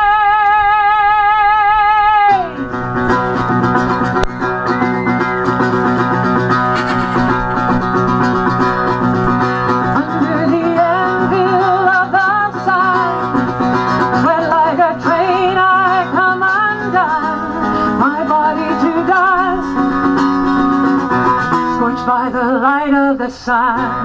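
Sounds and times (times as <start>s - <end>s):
plucked acoustic string instrument: 2.4s - 22.5s.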